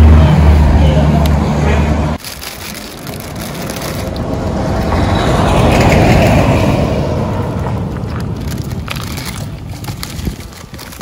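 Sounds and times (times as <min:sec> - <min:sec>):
road vehicle passing: 0:00.0 - 0:11.0.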